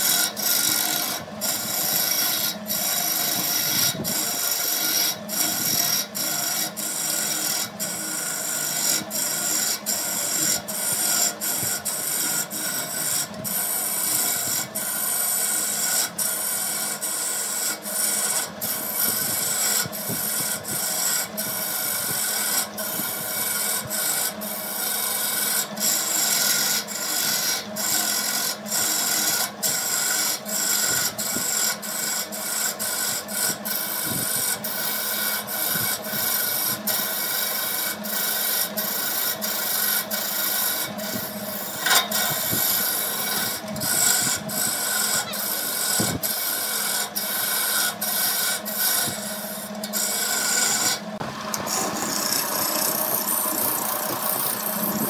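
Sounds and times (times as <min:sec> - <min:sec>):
power tool rasping wood: 0:00.0 - 0:55.0.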